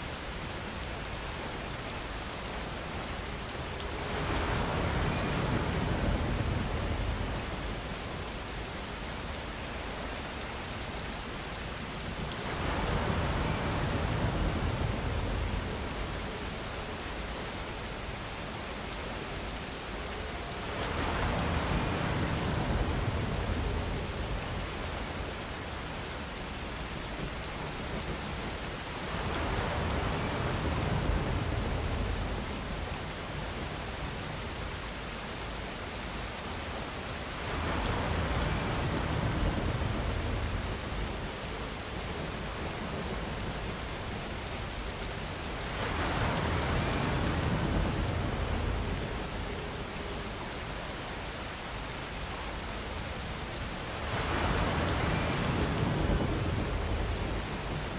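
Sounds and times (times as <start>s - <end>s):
steady rain: 0.0s - 57.9s
wind gusts: 0.0s - 57.9s.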